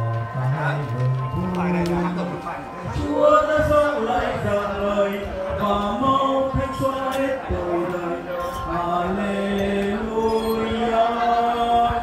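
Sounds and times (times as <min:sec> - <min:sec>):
slow hymn singing: 0:00.0 - 0:12.0.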